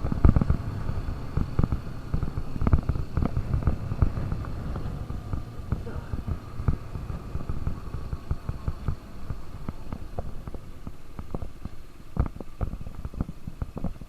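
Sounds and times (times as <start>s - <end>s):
motorcycle engine tone: 0.0s - 14.0s
wind buffeting microphone: 0.0s - 14.0s.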